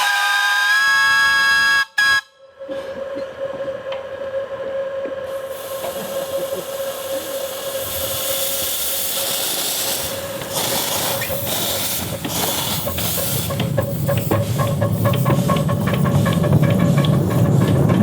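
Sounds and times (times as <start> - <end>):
steam locomotive hissing steam: 0.0 - 2.2, 5.3 - 18.0.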